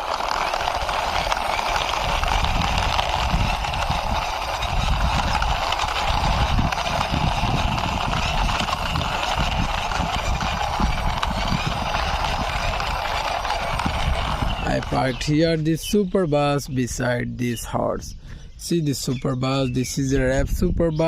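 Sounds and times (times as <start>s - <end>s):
toy bus wheels rolling: 0.0s - 18.0s.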